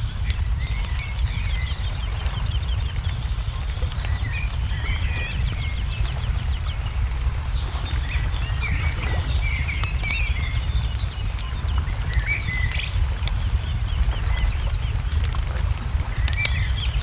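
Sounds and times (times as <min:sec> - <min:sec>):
low steady rumble: 0:00.0 - 0:17.0
small birds chirping: 0:00.0 - 0:17.0
wood fire crackling: 0:00.0 - 0:17.0.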